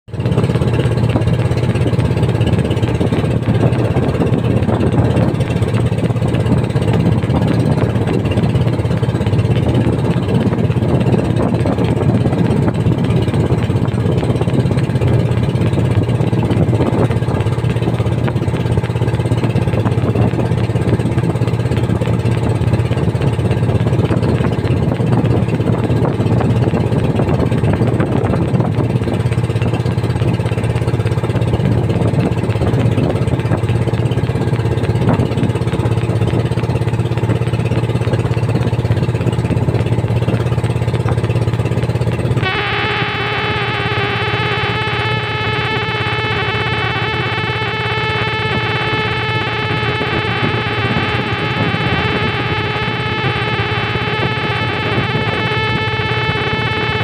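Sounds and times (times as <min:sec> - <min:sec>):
boat engine running: 0:00.1 - 0:57.0.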